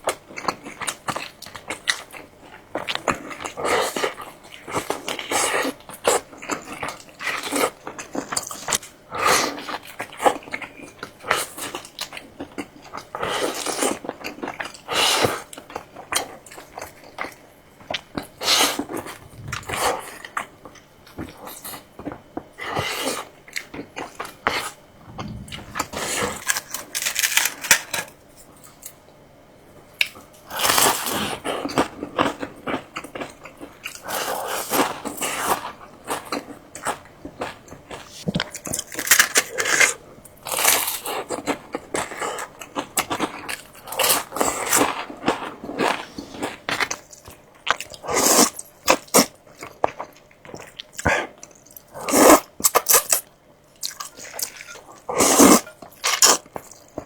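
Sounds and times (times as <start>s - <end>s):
crunchy chewing: 0.3s - 27.8s, 30.0s - 57.0s.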